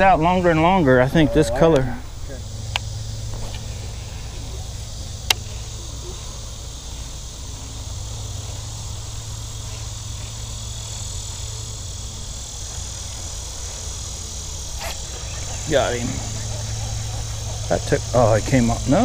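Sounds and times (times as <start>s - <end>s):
insects chorus: 0.0s - 19.0s
low steady hum: 0.0s - 19.0s.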